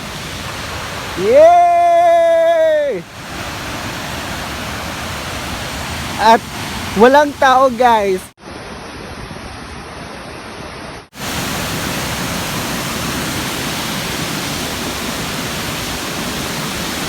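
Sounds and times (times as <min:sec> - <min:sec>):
waterfall rushing water: 0:00.0 - 0:08.4, 0:11.2 - 0:17.0.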